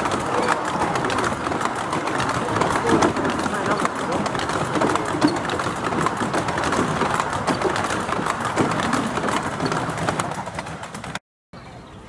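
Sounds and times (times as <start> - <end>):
clicks and clatter of wheels: 0.0 - 11.2
train wheels rumbling on track: 0.0 - 11.2.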